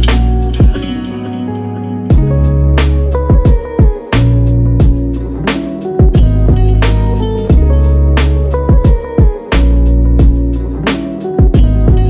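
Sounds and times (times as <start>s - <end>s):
music with bass and drums: 0.0s - 1.5s, 2.1s - 12.0s.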